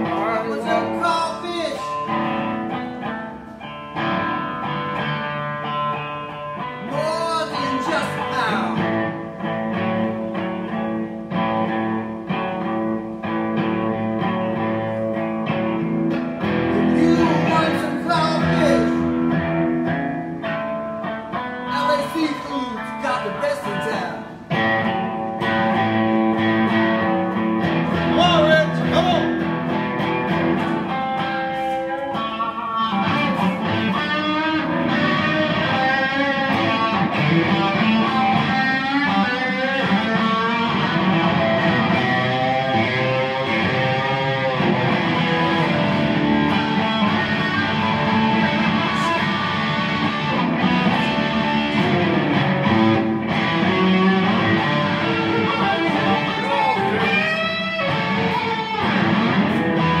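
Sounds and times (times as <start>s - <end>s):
electric guitar solo: 0.0s - 60.0s.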